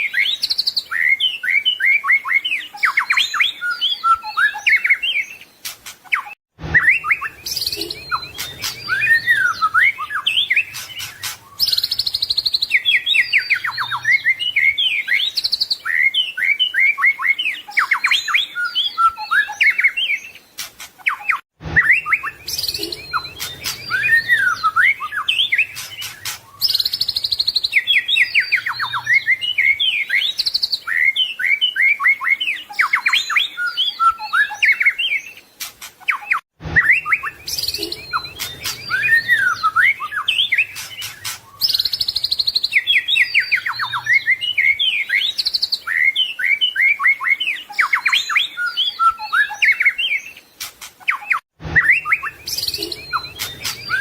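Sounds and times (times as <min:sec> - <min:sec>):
bird singing whistled trills: 0:00.0 - 0:20.4, 0:21.0 - 0:54.0.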